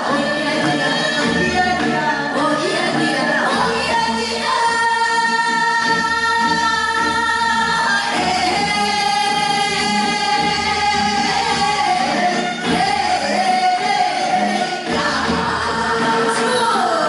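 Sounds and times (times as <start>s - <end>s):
women singing folk song together: 0.0s - 17.0s.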